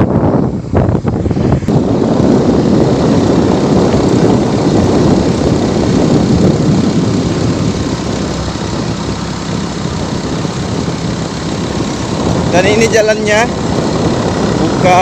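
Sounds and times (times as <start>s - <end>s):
rough rumble of travel: 0.0s - 15.0s
vehicle engine running: 0.0s - 15.0s.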